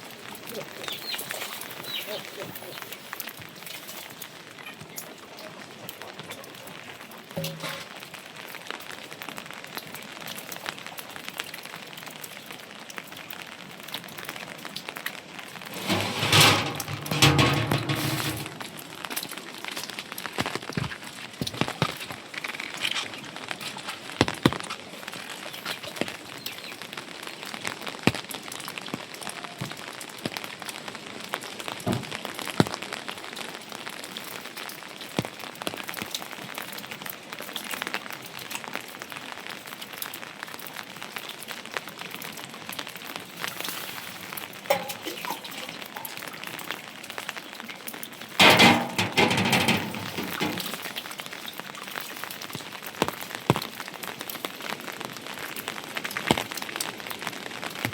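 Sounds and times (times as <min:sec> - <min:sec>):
rain pattering: 0:00.0 - 0:57.9.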